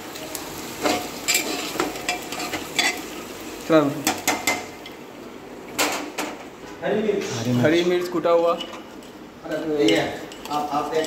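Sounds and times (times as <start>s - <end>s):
frying sizzle: 0.0s - 11.0s.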